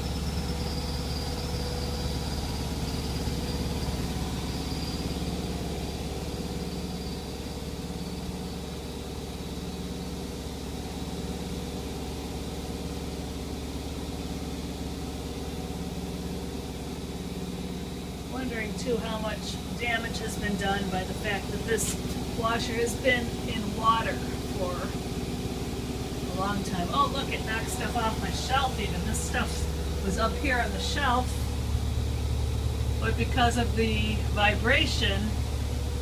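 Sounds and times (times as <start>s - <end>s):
washing machine droning and throbbing: 0.0s - 36.0s.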